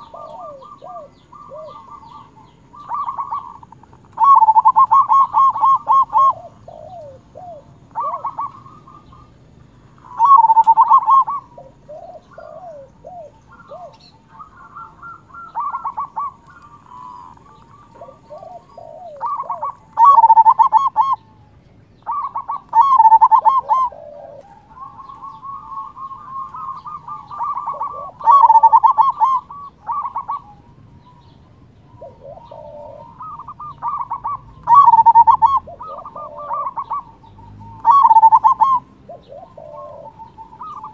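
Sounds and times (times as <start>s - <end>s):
dove trilled cooing: 0.0s - 40.9s
soft low dove coos: 0.0s - 40.9s.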